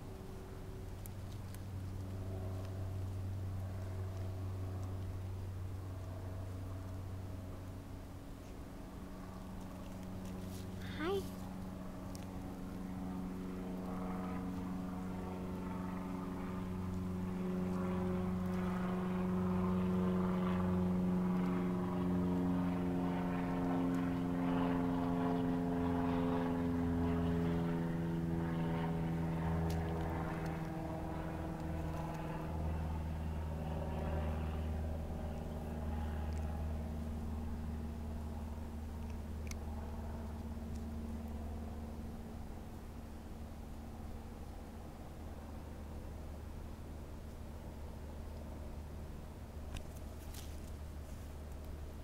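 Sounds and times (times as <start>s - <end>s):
engine drone: 0.0s - 52.0s.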